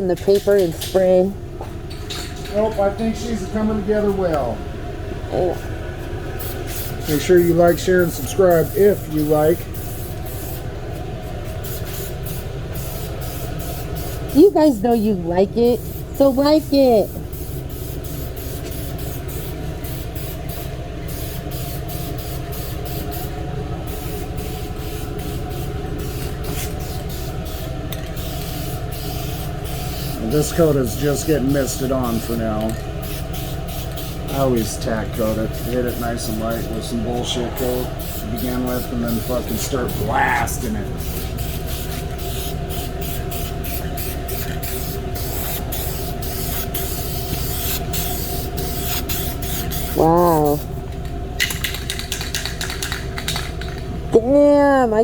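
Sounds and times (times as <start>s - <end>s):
steady low hum: 0.0s - 55.0s
aerosol spray paint hissing: 6.4s - 15.1s, 15.7s - 23.3s, 23.9s - 50.8s, 51.4s - 53.8s.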